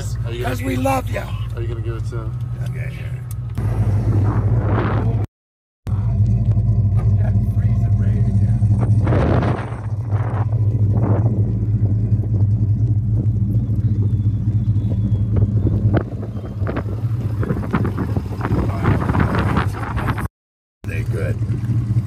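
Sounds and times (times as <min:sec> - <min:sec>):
car cabin drone: 0:00.0 - 0:05.3, 0:05.9 - 0:20.2.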